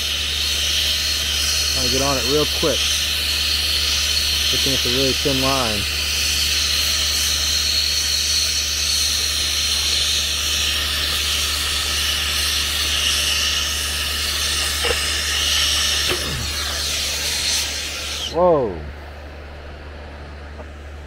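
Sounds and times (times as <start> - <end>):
torch flame hissing: 0.0 - 18.8.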